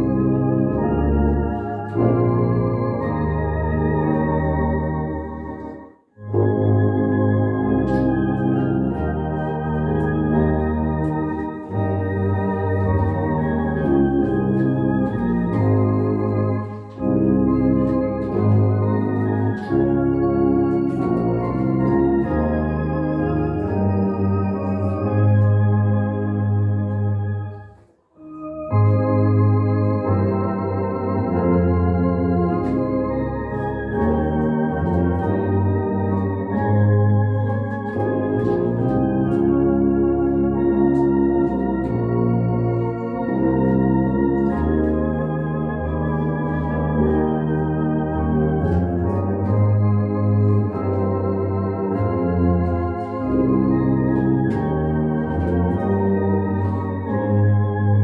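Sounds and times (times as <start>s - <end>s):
tuba and saxophone playing a hymn: 6.3s - 27.4s, 28.7s - 58.0s.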